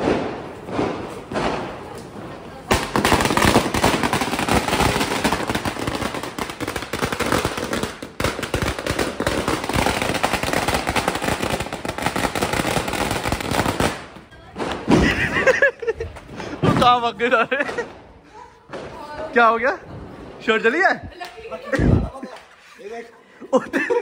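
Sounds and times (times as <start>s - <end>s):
firecrackers going off: 0.0s - 20.8s.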